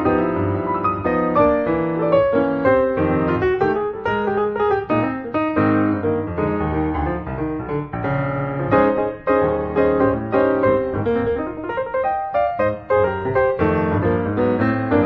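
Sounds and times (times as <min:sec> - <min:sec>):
flowing piano music: 0:00.0 - 0:15.0.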